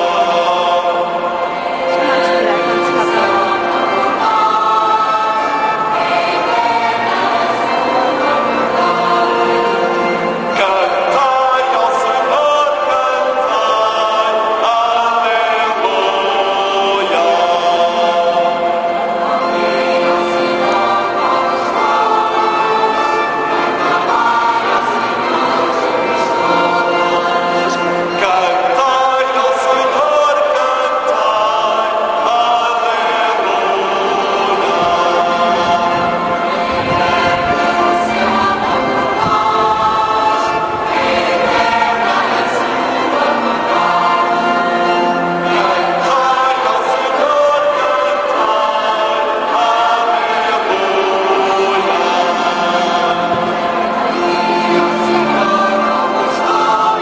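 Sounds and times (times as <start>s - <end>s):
choir singing a hymn over loudspeakers: 0.0s - 57.0s.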